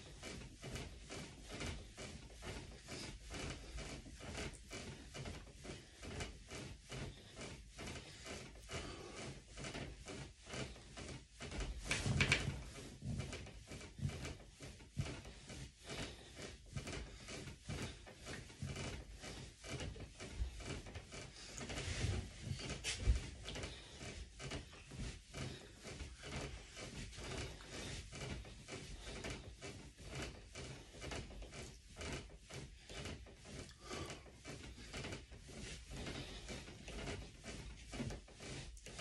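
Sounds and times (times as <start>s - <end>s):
bed creaking and bedding rustling: 0.0s - 39.0s.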